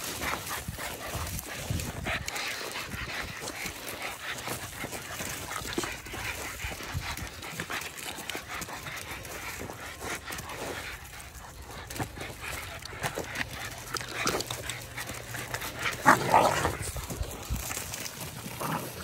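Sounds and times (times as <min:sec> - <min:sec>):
dogs playing noises: 0:00.0 - 0:19.0
dogs scuffling: 0:00.0 - 0:19.0.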